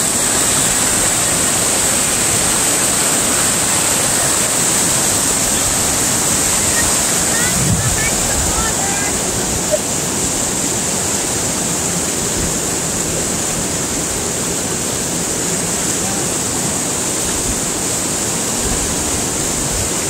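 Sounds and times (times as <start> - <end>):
stream water flowing: 0.0 - 20.0.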